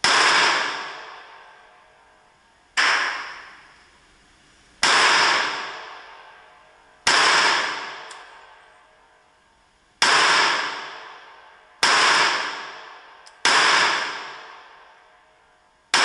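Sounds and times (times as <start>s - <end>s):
pistol shots echoing indoors: 0.0s - 2.2s, 2.8s - 3.7s, 4.8s - 16.0s.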